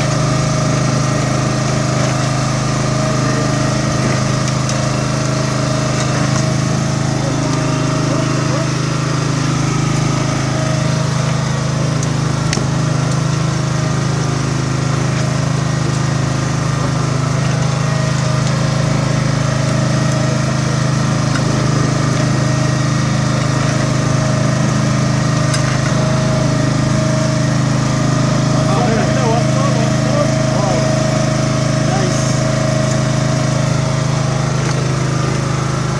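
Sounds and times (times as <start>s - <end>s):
boat engine humming: 0.0s - 35.9s.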